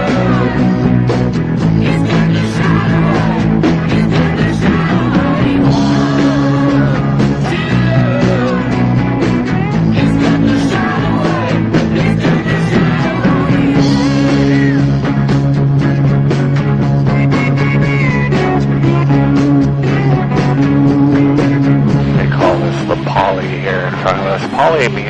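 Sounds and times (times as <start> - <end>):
rock song with vocals: 0.0 - 25.0.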